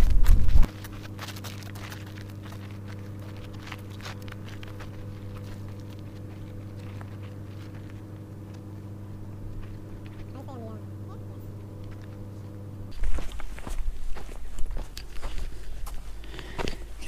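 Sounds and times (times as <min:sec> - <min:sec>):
footsteps on gravel: 0:00.0 - 0:17.0
low hum: 0:00.0 - 0:17.0.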